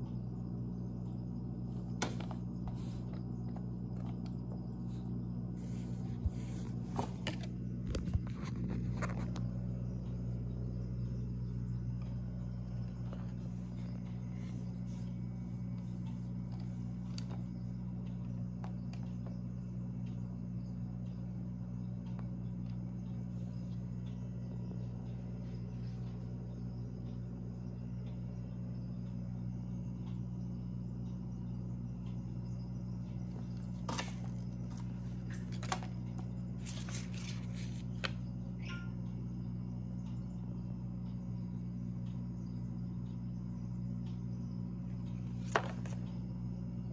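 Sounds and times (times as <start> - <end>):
low room hum: 0.0 - 46.9.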